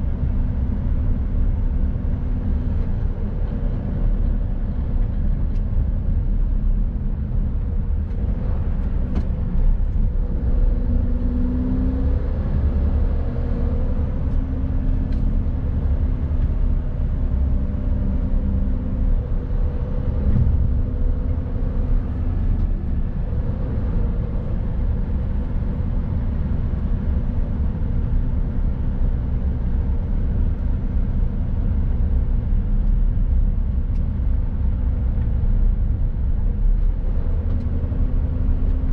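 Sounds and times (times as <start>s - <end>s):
low road rumble: 0.0s - 38.9s
truck diesel engine drone: 0.0s - 38.9s.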